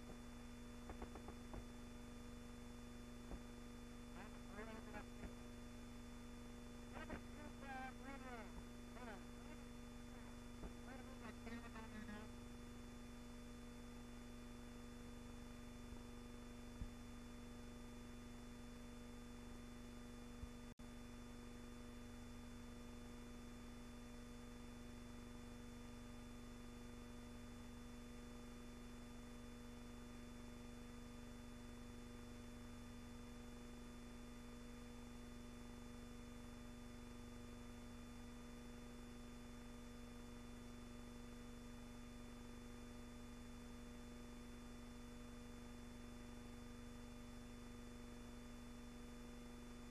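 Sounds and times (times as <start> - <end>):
electrical hum with hiss: 0.0 - 49.9.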